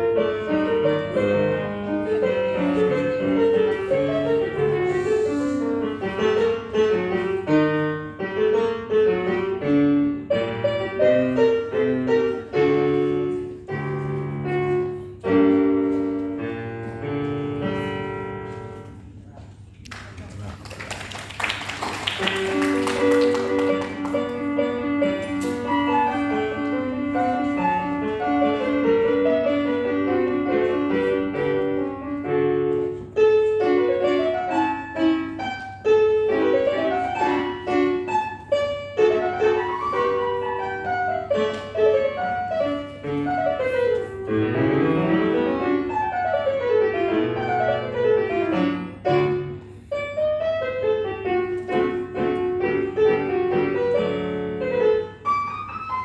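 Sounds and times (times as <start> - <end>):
solo piano classical piece: 0.0 - 19.2, 21.2 - 56.0.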